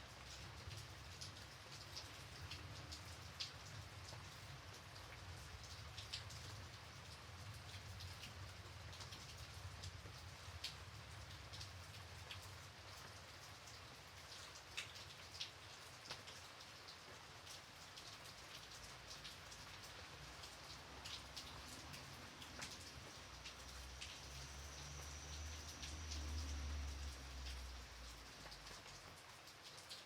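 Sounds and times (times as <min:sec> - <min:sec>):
light rain hissing: 0:00.0 - 0:30.0
raindrops ticking close by: 0:00.0 - 0:30.0.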